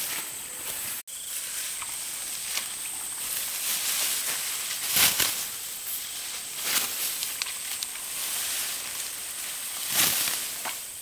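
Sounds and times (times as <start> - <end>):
plant stalks rustling: 0.0 - 11.0
steady high-pitched hiss: 0.0 - 11.0.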